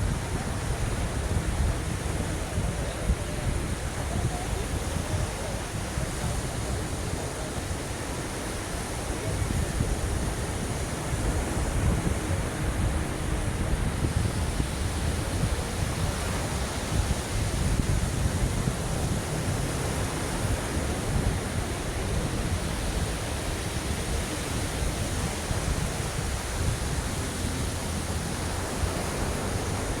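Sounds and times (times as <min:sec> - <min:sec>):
ocean surf with deep rumble: 0:00.0 - 0:30.0.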